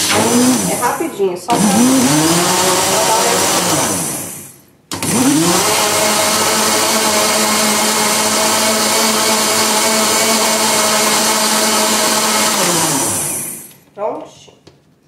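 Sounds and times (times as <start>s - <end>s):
blender motor running: 0.0s - 13.8s.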